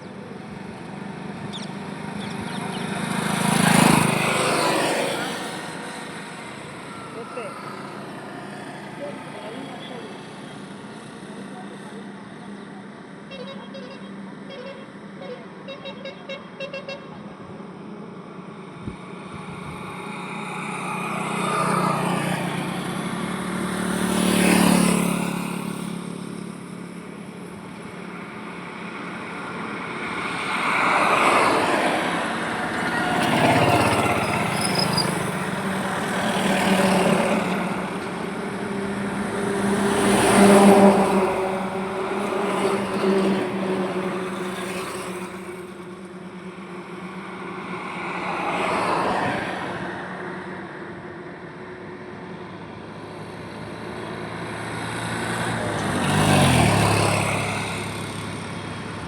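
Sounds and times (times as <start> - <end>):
engine hum: 0.0 - 59.0
vehicles passing on highway: 0.0 - 59.0.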